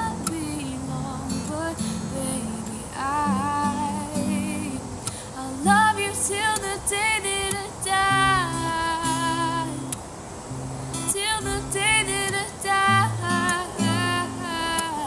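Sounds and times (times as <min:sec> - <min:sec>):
woman singing pop song: 0:00.0 - 0:10.1, 0:11.0 - 0:15.0.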